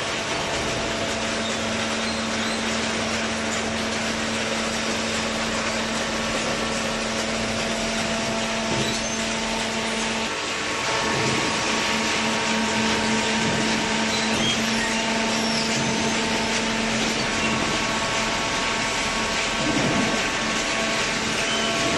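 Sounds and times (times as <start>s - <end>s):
baler machine drone: 0.0s - 21.9s.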